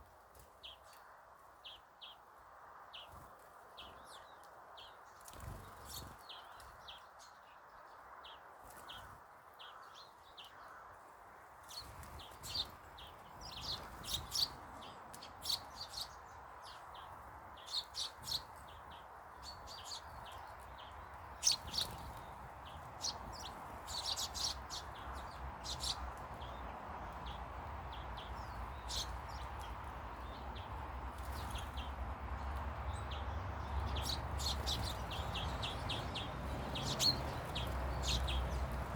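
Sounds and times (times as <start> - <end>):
small birds chirping: 2.9 - 10.9, 11.6 - 38.9.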